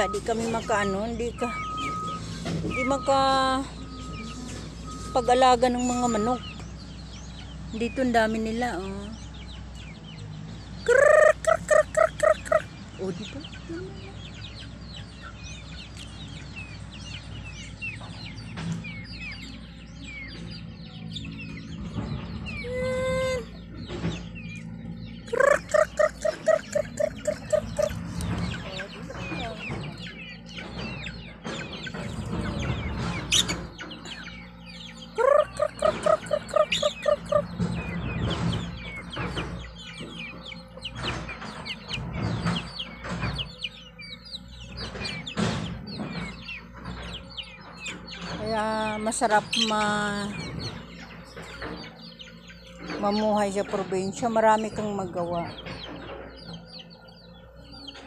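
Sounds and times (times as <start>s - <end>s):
chickens clucking: 0.0s - 58.0s
chicks peeping: 0.0s - 58.0s.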